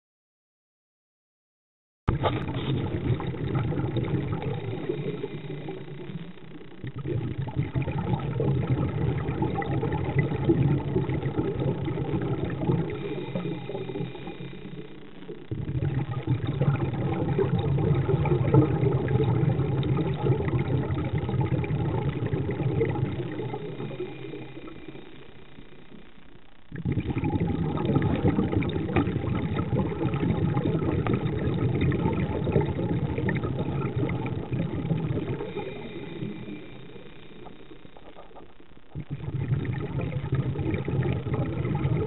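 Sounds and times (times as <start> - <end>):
crackly underwater rumble: 2.1 - 42.0.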